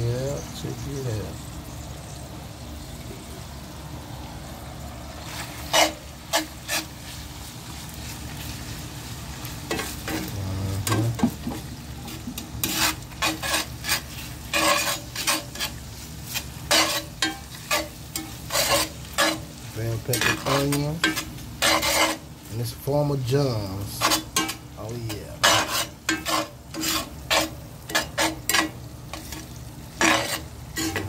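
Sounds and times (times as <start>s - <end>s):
meat sizzling in a skillet: 0.3s - 31.0s
spatula scraping a pan: 5.2s - 31.0s.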